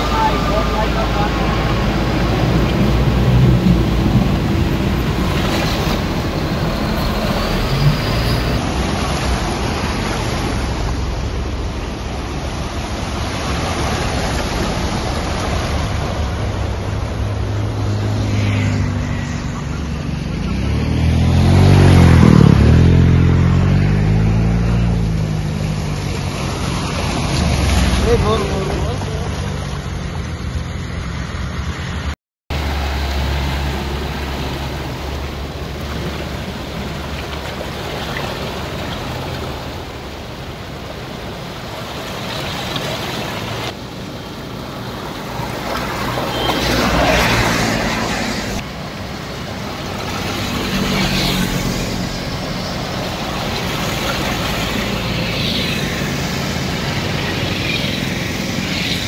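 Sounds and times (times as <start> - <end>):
rushing water: 0.0 - 59.0
tyres splashing through water: 0.0 - 59.0.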